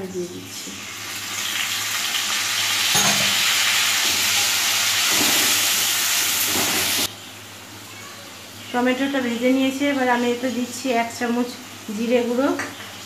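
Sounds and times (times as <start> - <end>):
tomato puree sizzling in oil: 0.0 - 7.4, 8.4 - 13.0.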